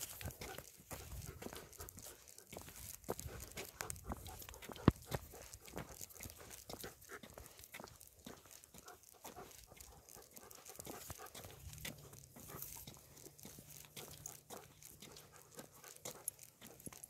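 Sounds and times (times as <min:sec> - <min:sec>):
footsteps and paws on pavement: 0:00.0 - 0:17.0.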